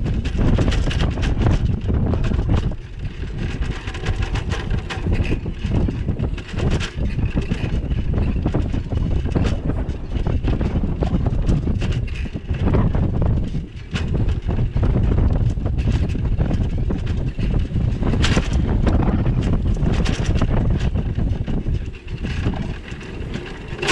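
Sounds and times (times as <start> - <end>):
bike clicks and knocks: 0.0 - 23.9
wind buffeting microphone: 0.0 - 23.9.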